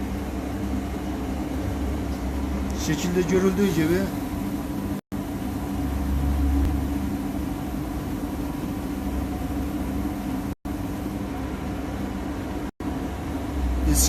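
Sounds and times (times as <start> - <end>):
cleaning machine pump humming: 0.0 - 14.0.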